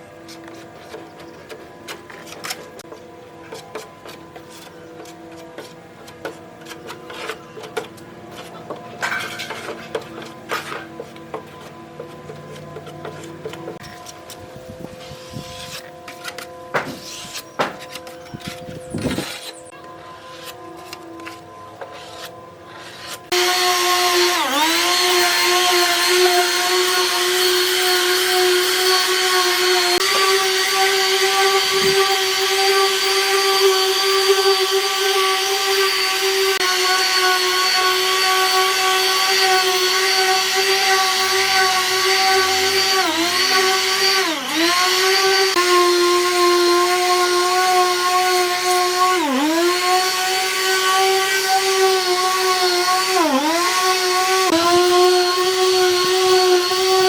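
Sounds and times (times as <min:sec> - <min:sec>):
power tool motor whine: 0:09.2 - 0:57.0.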